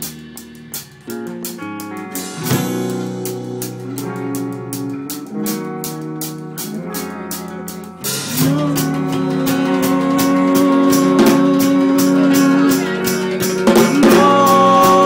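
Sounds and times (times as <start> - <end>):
drum kit with cymbal strokes: 0.0 - 15.0
electric guitar: 0.0 - 15.0.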